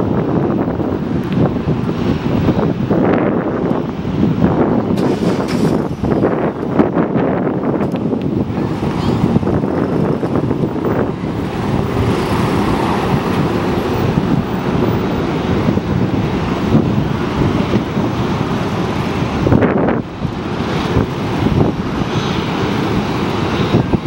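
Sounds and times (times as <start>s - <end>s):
distant engine noise: 0.0s - 24.0s
wind buffeting microphone: 0.0s - 24.0s.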